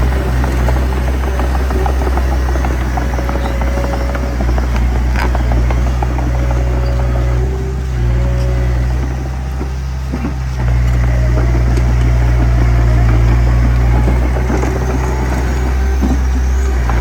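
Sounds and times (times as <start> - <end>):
bulldozer diesel engine running: 0.0 - 17.0
rapid clatter: 0.0 - 17.0.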